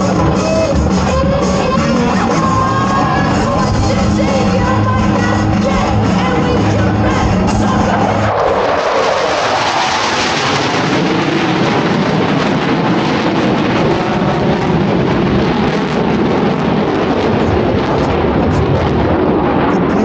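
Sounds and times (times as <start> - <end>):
jet flying past: 0.0 - 20.0
steady jet rushing: 0.0 - 20.0.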